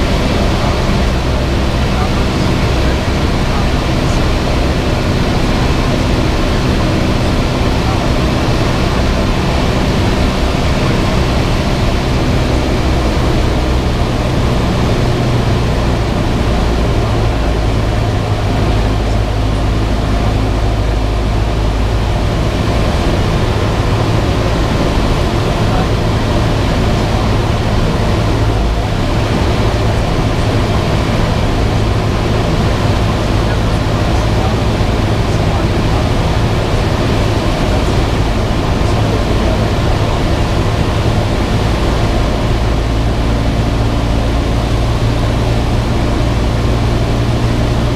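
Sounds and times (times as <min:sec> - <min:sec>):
air noise: 0:00.0 - 0:47.9
aircraft engine and propeller drone: 0:00.0 - 0:47.9.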